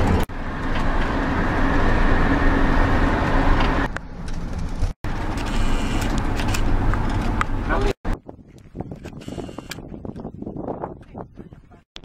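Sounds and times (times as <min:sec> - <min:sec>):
moving vehicle road noise: 0:00.0 - 0:11.9.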